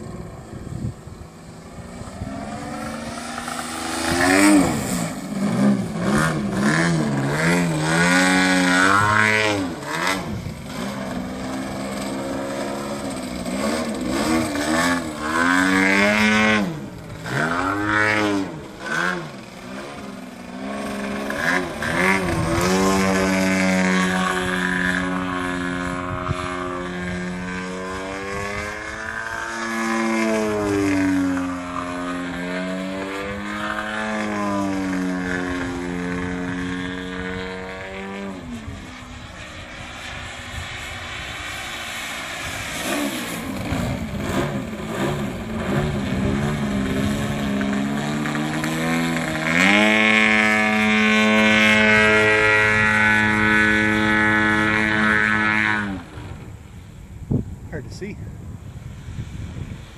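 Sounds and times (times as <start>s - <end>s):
model plane engine: 0.0s - 58.1s.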